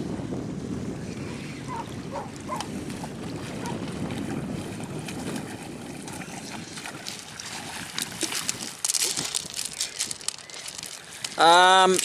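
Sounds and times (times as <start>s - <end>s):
wind buffeting microphone: 0.0s - 12.0s
waves lapping on gravel: 2.3s - 12.0s.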